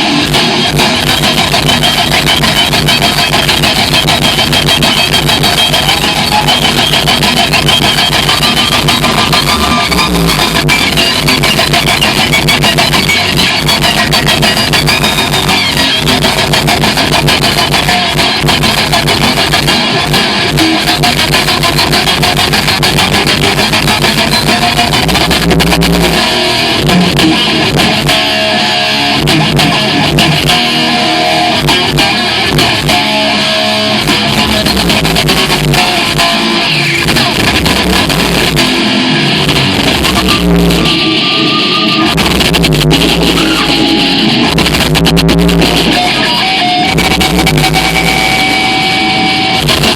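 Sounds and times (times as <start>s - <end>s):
bass guitar: 0.0s - 49.9s
drums: 0.0s - 49.9s
electric guitars: 0.0s - 49.9s.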